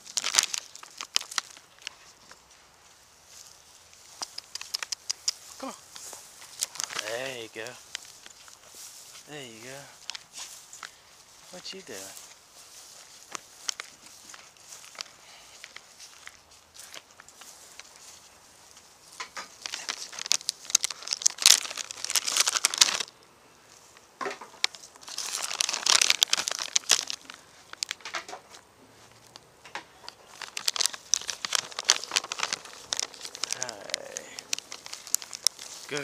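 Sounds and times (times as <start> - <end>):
crinkling and rustling: 0.0 - 36.0.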